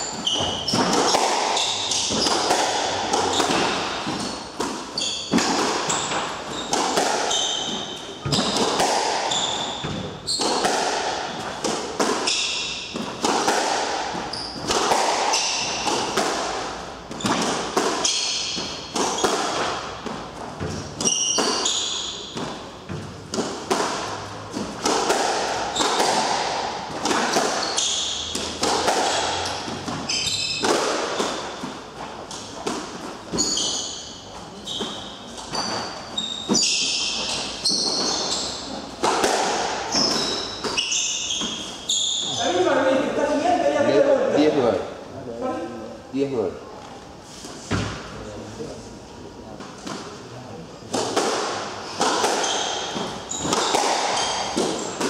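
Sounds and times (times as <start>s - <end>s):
shoes squeaking on wooden floor: 0.0s - 24.8s, 25.6s - 43.0s, 51.8s - 55.0s
ball smacking court walls: 0.0s - 34.0s, 34.7s - 42.6s, 50.9s - 55.0s
squash racket hitting ball: 0.0s - 42.6s, 50.9s - 55.0s.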